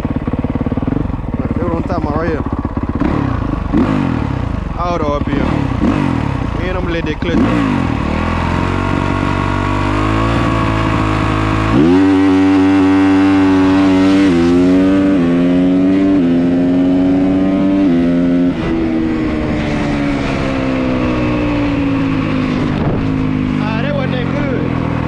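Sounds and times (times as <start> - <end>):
dirt bike engine accelerating: 0.0 - 25.0.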